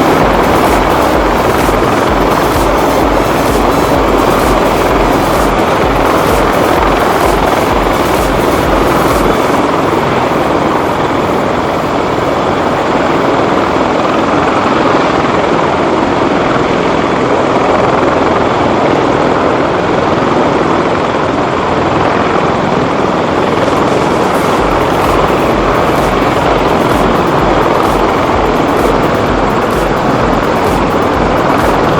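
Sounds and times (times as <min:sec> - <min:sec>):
helicopter rotor noise: 0:00.0 - 0:31.9.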